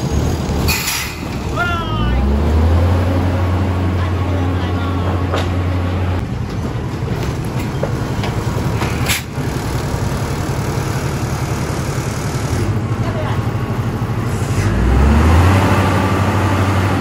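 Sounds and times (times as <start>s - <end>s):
diesel train drone: 0.0s - 17.0s.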